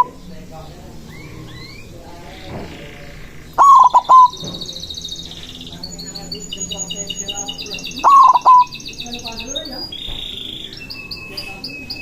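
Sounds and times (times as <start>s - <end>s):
dove cooing: 0.0s - 12.0s
small birds chirping trills: 0.0s - 12.0s.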